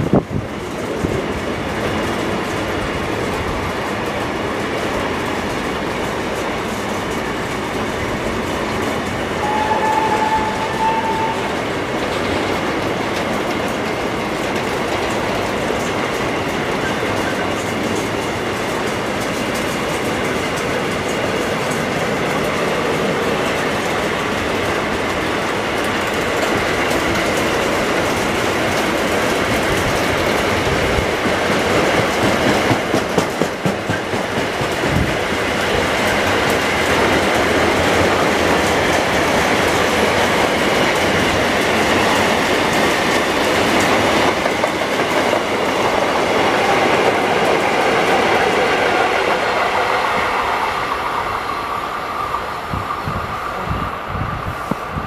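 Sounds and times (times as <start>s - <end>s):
clickety-clack of wheels: 0.0s - 51.1s
train wheel and rail noise: 0.0s - 55.0s.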